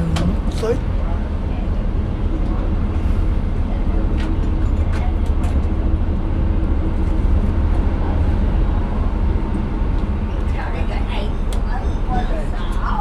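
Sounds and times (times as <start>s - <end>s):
train rumble from inside carriage: 0.0s - 13.0s.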